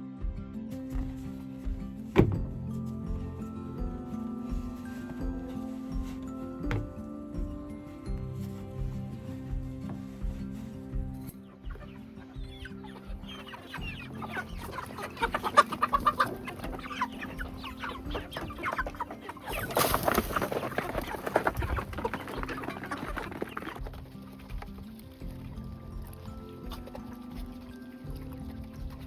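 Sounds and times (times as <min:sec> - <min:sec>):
chickens clucking: 0:00.9 - 0:29.0.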